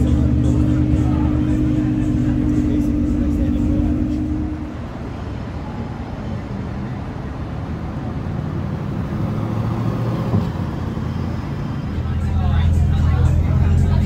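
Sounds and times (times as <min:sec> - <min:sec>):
car engine passing: 0:00.0 - 0:14.0.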